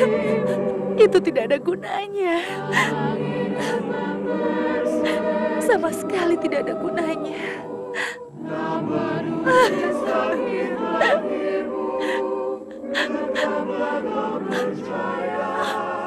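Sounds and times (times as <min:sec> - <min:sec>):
choir singing slow melody: 0:00.0 - 0:16.0.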